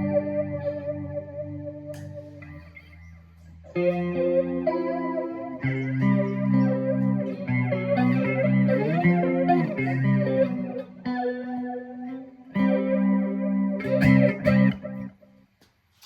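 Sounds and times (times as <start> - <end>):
electric guitar chords with flanger: 0.0 - 15.2.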